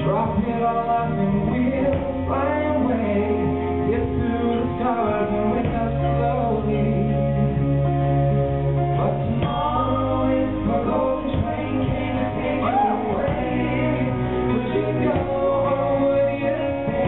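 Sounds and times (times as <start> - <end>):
two men singing in harmony: 0.0 - 7.6, 9.0 - 17.0.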